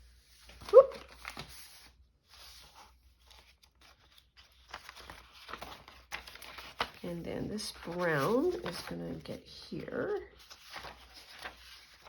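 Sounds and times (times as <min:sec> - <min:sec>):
paper rustling: 0:00.0 - 0:12.0.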